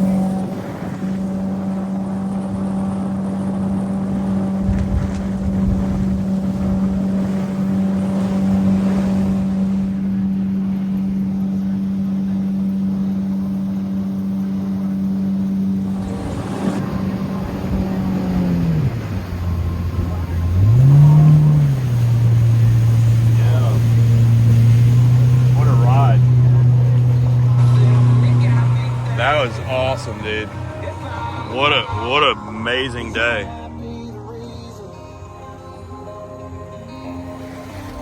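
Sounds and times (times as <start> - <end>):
boat motor running: 0.0 - 38.0.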